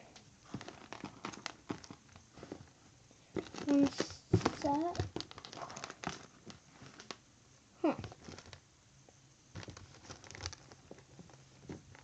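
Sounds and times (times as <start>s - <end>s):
squishy toys tapping and rustling: 0.5s - 7.2s, 8.0s - 8.6s, 9.6s - 12.0s.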